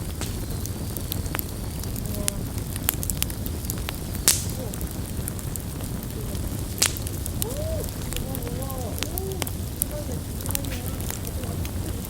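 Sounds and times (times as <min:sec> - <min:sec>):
campfire crackling and popping: 0:00.0 - 0:12.0
low steady rumble: 0:00.0 - 0:12.0.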